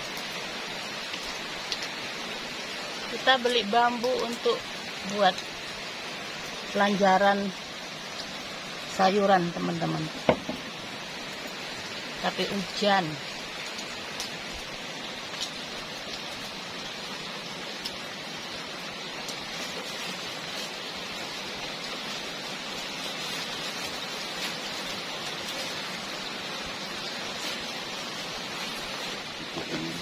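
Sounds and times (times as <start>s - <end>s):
rain falling steadily: 0.0s - 30.0s
raindrops ticking: 0.0s - 30.0s.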